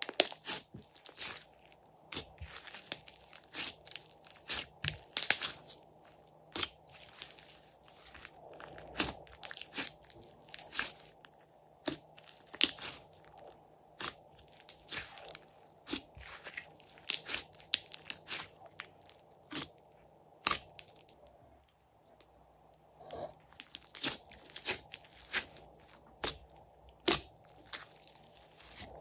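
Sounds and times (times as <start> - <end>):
slime popping and crackling: 0.0 - 19.7, 20.4 - 21.2, 23.6 - 29.0.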